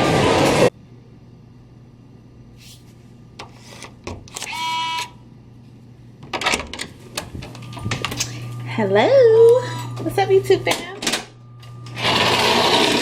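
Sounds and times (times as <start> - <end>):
low steady hum: 0.7 - 12.0.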